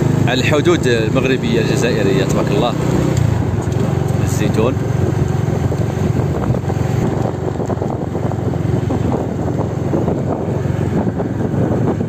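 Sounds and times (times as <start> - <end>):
car driving rumble: 0.0 - 12.0
wind noise on microphone: 0.0 - 12.0.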